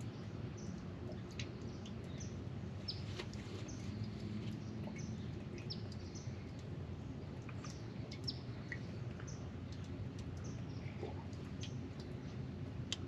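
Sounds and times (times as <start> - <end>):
low steady background rumble: 0.0 - 13.0
small birds chirping: 0.0 - 13.0.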